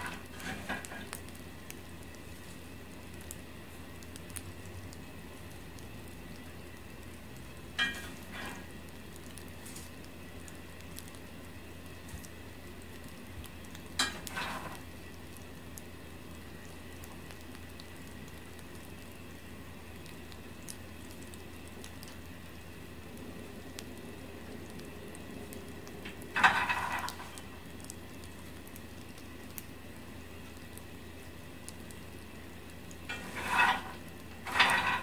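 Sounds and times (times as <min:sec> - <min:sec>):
peanuts ticking as they cool: 0:00.0 - 0:35.0
steady low hum: 0:00.0 - 0:35.0.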